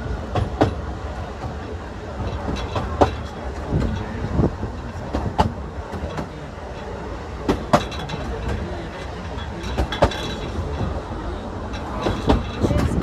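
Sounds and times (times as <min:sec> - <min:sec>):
railway coach rumbling: 0:00.0 - 0:13.0
wheels and couplings clanking: 0:00.0 - 0:13.0.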